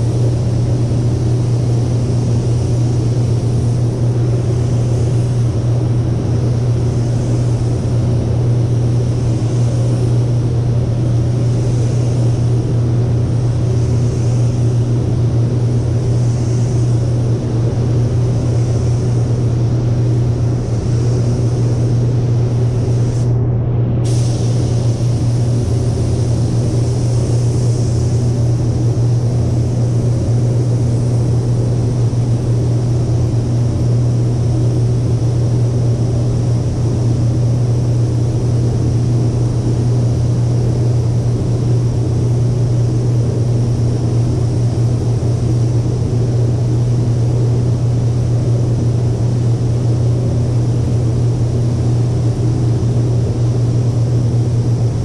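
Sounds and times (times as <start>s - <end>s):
spray gun hissing: 0.0s - 23.4s, 24.0s - 55.0s
ventilation deep hum: 0.0s - 55.0s.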